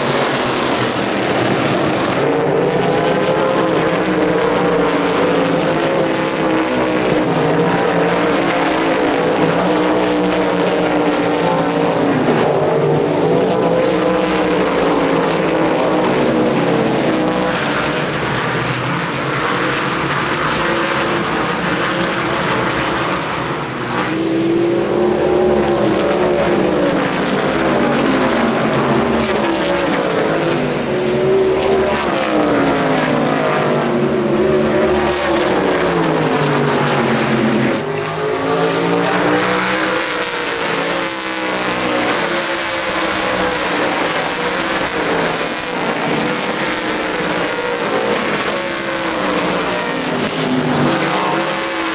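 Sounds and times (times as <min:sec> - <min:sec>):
race car engines passing: 0:00.0 - 0:51.9.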